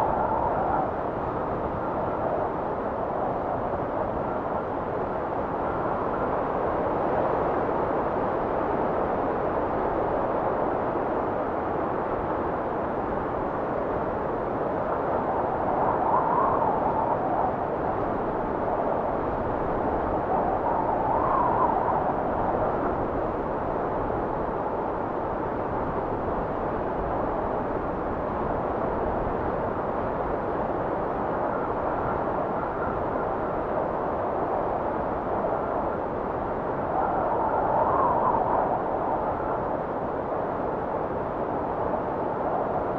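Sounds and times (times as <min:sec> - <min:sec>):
wind blowing and whistling: 0:00.0 - 0:42.9.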